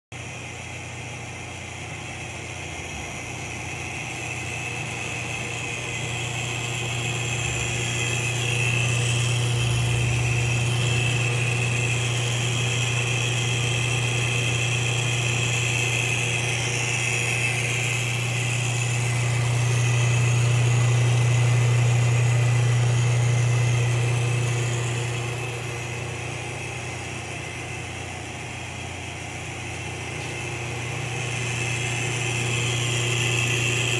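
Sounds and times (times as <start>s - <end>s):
lathe motor hum: 0.2s - 33.9s
thin high whine: 0.6s - 33.9s.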